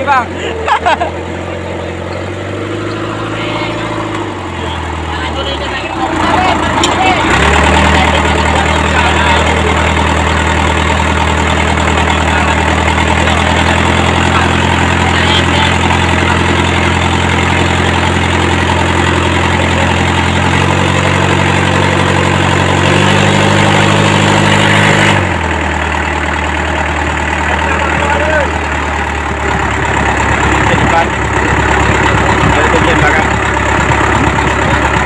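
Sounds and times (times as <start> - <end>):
diesel boat engine running: 0.0 - 35.0.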